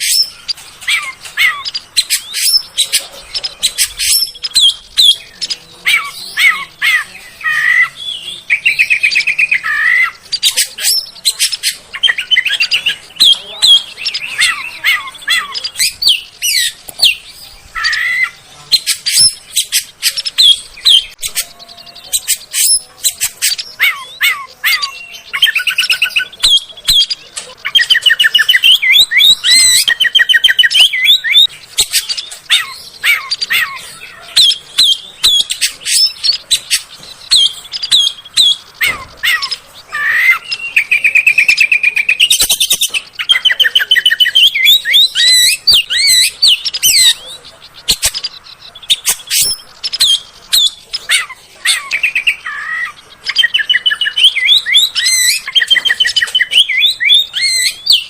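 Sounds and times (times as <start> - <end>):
songbird singing varied song: 0.0 - 58.0.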